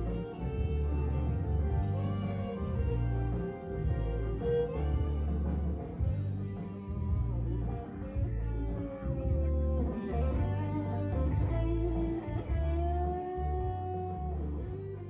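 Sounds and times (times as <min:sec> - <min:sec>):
electric guitar lead notes: 0:00.0 - 0:15.0
pulsing bass line: 0:00.0 - 0:15.0.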